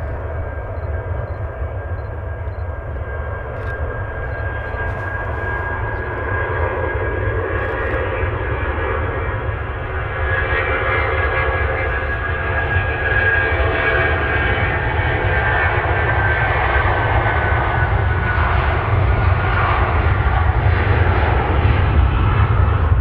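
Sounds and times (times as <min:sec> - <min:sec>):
jet engines passing: 0:00.0 - 0:23.0.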